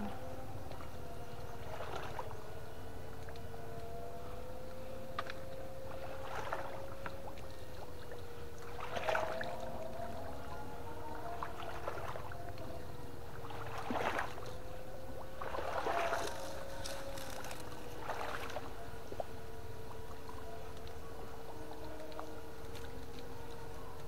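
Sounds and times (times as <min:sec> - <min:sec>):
steady hum: 0:00.0 - 0:24.0
water splashing: 0:00.0 - 0:24.0.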